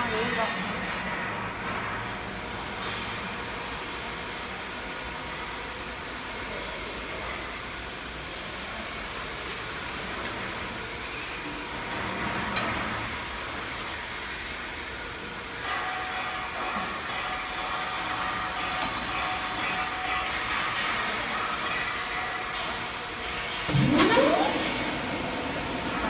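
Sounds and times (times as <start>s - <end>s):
machine rumble and hiss: 0.1s - 26.0s.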